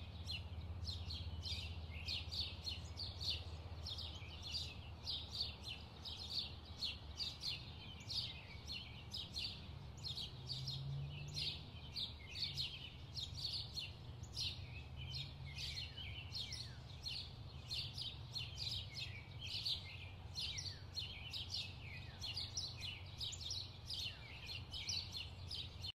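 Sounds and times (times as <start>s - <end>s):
birds chirping rapidly: 0.0s - 26.0s.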